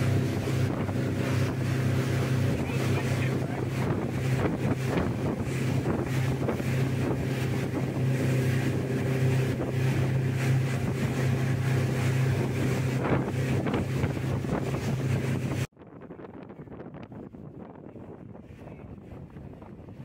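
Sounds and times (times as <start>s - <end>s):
motorboat engine running: 0.0s - 20.0s
wind buffeting microphone: 0.0s - 20.0s.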